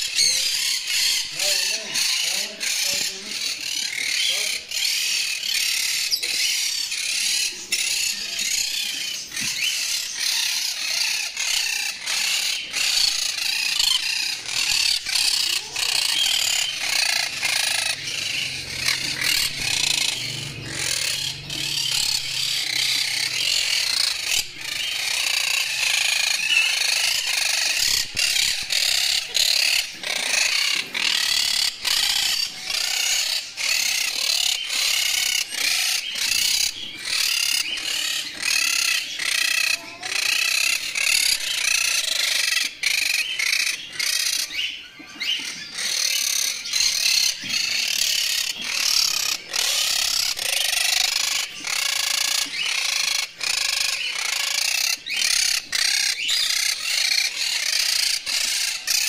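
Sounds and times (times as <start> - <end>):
parrots chattering and chirping: 0.0 - 59.0.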